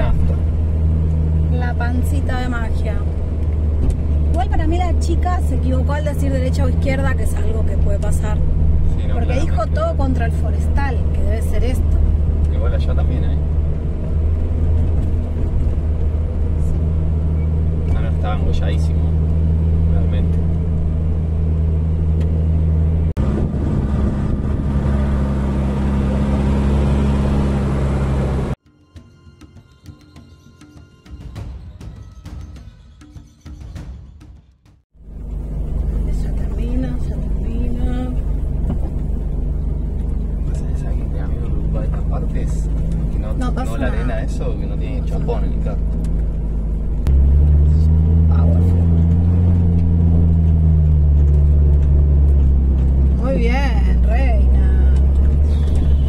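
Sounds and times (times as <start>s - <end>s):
van engine running: 0.0s - 28.6s, 34.9s - 56.0s.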